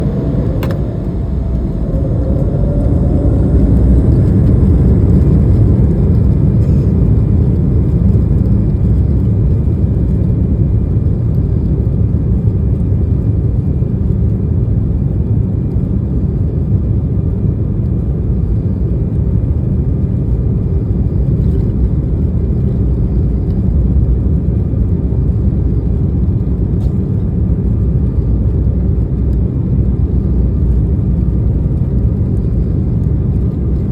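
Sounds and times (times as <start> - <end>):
jet engines roaring in cabin: 0.0 - 33.9.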